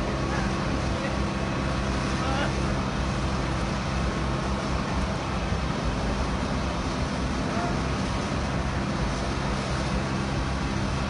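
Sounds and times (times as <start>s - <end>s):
construction machinery engines droning: 0.0s - 11.0s.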